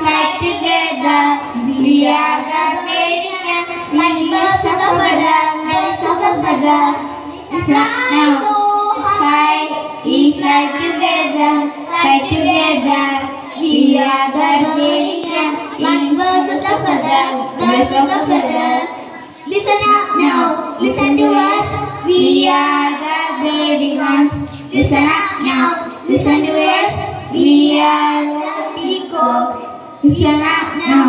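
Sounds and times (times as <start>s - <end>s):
children singing together: 0.0s - 31.0s.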